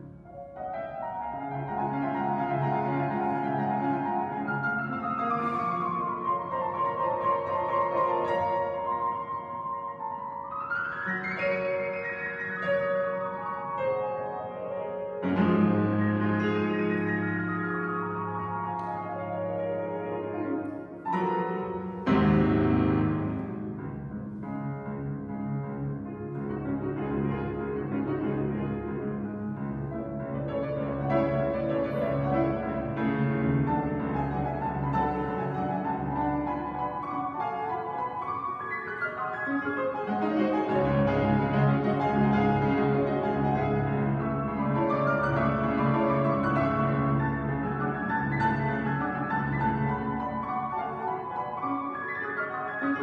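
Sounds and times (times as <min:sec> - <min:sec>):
solo classical piano: 0:00.0 - 0:53.0.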